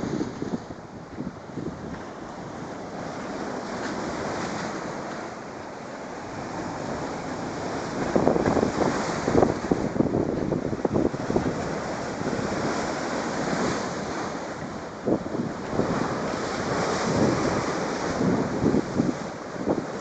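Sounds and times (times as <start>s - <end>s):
wind buffeting microphone: 0.0s - 4.9s, 6.3s - 20.0s
sea waves breaking on shore: 0.0s - 20.0s.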